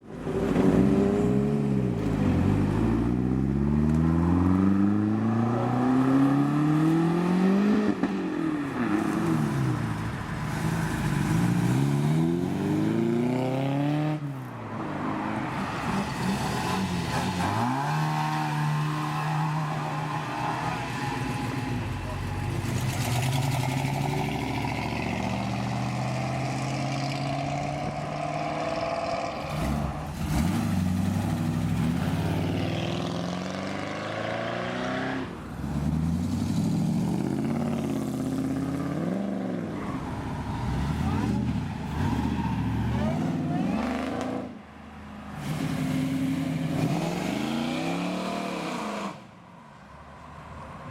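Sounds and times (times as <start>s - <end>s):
car engines revving hard: 0.0s - 44.6s, 45.2s - 49.3s.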